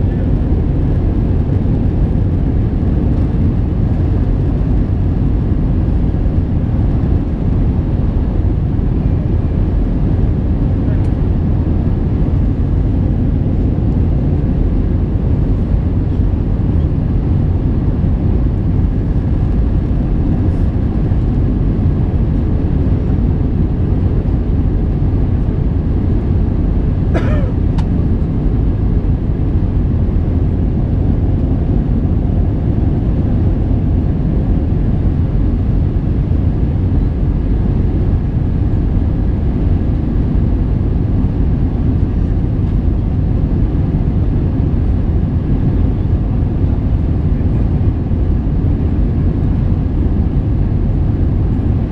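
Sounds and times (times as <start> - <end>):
jet engines and airflow rumble: 0.0 - 51.9.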